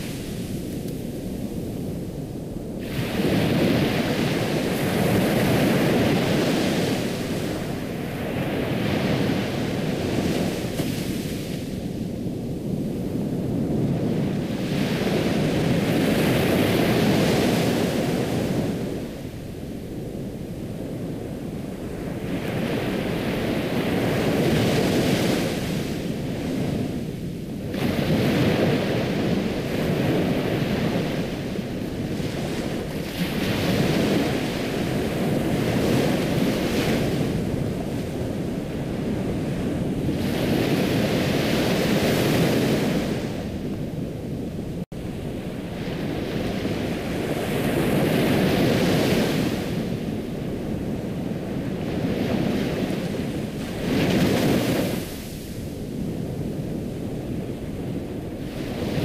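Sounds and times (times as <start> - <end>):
ocean waves washing on shore: 0.0 - 59.0.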